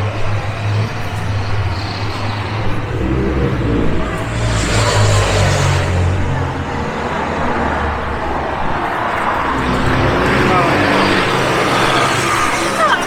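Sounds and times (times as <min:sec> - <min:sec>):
car engines humming: 0:00.0 - 0:13.0
tyre hiss of passing vehicle: 0:00.0 - 0:13.0.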